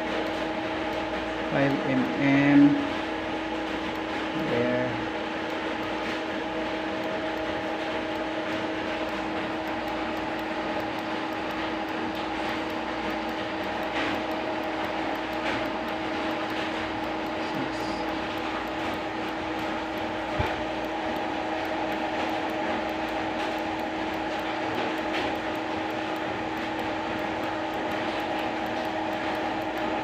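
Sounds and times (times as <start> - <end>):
mechanical drone: 0.0 - 30.0.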